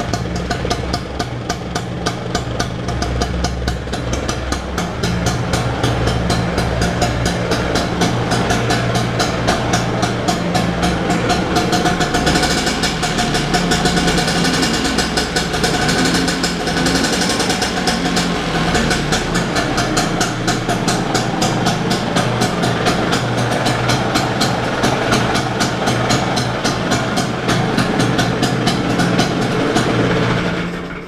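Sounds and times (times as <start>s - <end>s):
scooter two-stroke engine running: 0.0s - 31.0s.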